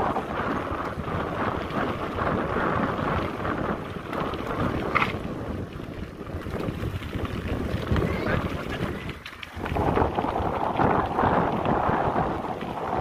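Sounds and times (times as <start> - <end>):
bike rattling: 0.0 - 13.0
tyres rolling on gravel path: 0.0 - 13.0
wind buffeting microphone: 0.0 - 13.0.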